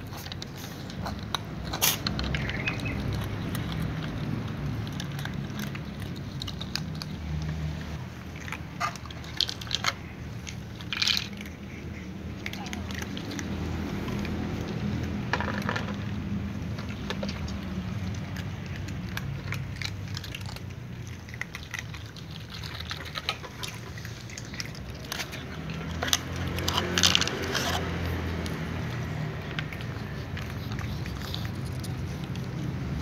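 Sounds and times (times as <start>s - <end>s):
cats crunching dry kibble: 0.0s - 33.0s.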